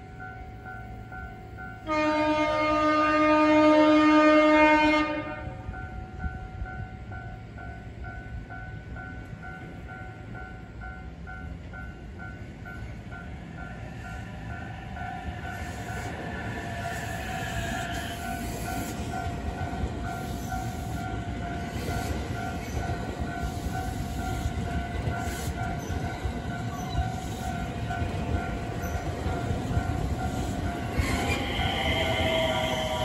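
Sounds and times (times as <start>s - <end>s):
train wheels rumbling on rails: 5.0s - 33.0s.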